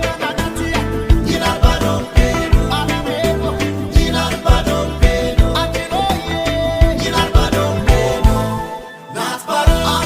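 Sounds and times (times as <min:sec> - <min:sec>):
instrumental pop music with beat: 0:00.0 - 0:10.0.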